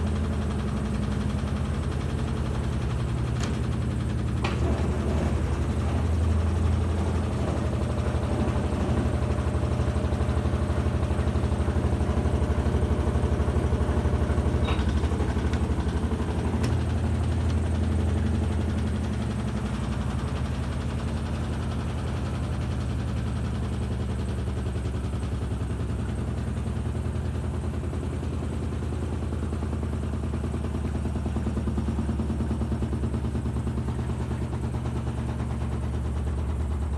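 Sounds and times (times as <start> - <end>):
washing machine motor hum: 0.0 - 23.3, 25.2 - 36.9.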